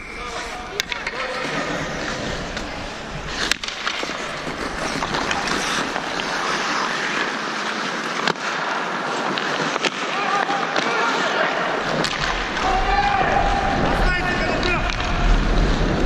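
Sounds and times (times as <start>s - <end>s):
hockey sticks and puck clacking: 0.0s - 16.0s
skate blades on ice: 0.1s - 16.0s.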